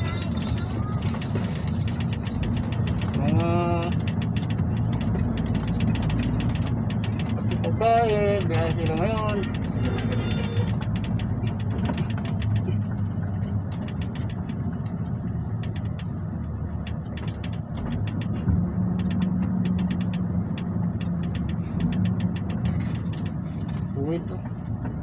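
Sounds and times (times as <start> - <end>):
diesel truck engine drone: 0.0 - 25.0.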